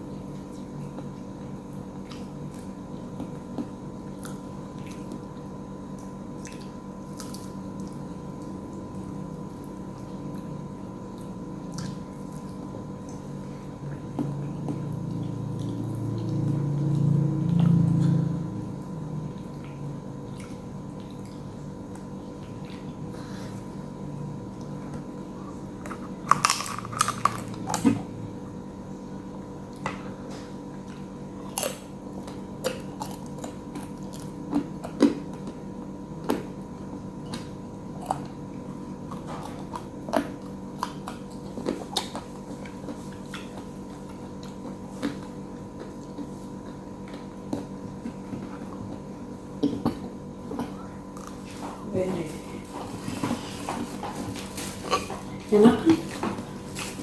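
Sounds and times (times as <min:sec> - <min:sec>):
person chewing food: 0:00.0 - 0:28.2, 0:29.6 - 0:51.8
steady hum: 0:00.0 - 0:57.0.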